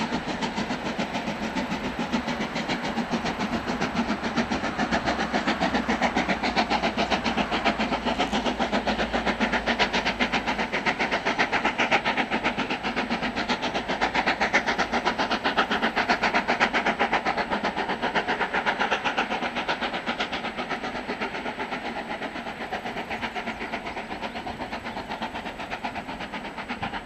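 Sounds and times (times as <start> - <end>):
steam locomotive exhaust beating: 0.0 - 27.0.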